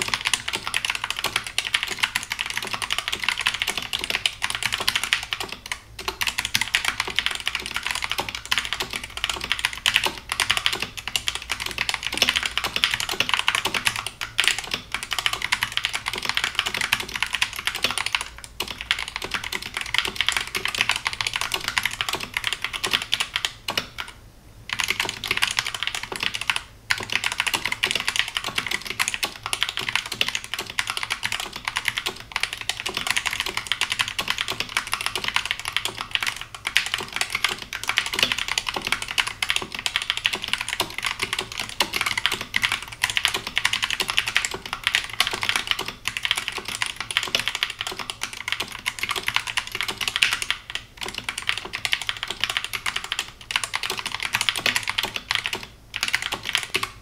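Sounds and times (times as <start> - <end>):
fast typing on mechanical keyboard: 0.0 - 57.0.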